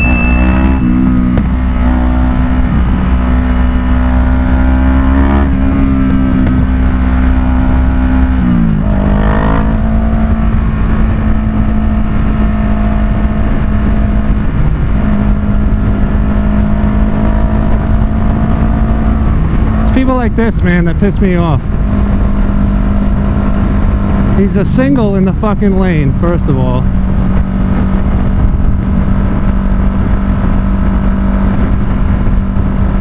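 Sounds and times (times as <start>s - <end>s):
motorcycle engine cruising: 0.0s - 33.0s
wind rumbling on microphone: 0.0s - 33.0s.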